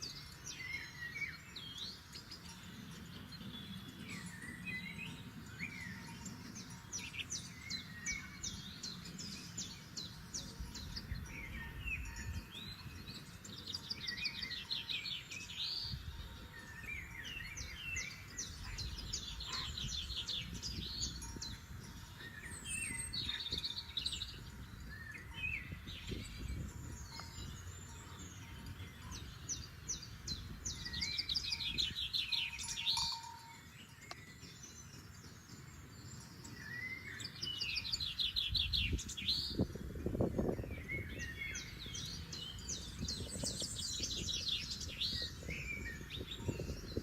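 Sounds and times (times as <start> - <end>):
songbirds singing: 0.0 - 47.0.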